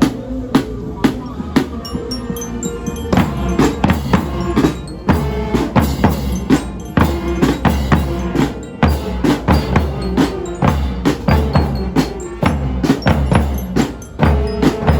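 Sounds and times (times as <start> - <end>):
music with drum beat and bass: 0.0 - 14.9.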